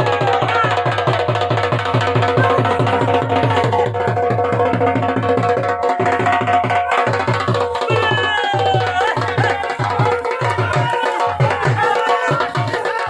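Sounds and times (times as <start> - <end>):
drum beating fast rhythm: 0.0 - 13.0.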